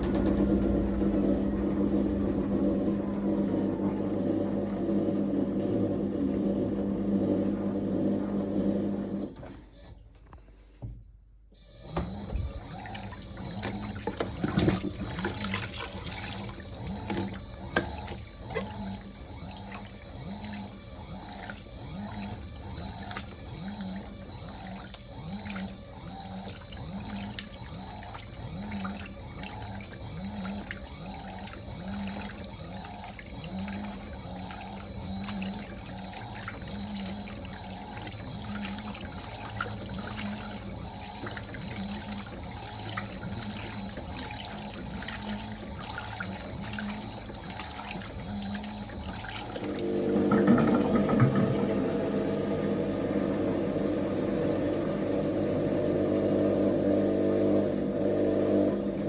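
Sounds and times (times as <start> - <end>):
water sloshing in tub: 0.0 - 8.2, 11.6 - 59.0
washing machine motor humming: 0.0 - 59.0.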